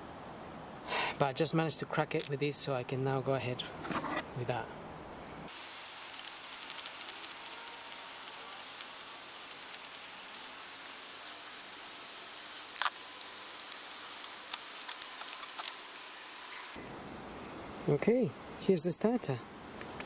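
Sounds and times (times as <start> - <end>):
steady hiss: 0.0 - 3.8, 4.4 - 20.0.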